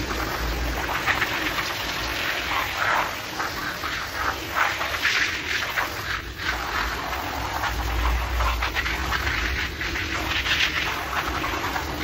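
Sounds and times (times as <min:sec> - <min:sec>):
hose water jet spraying rug: 0:00.0 - 0:12.0.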